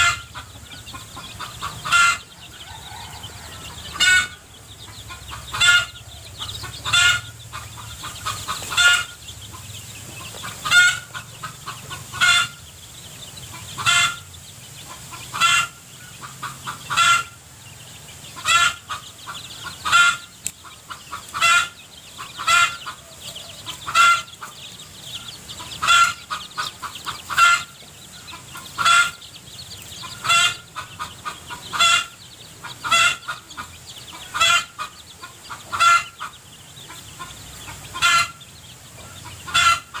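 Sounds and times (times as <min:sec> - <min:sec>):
chicken calling: 0:00.0 - 0:40.0.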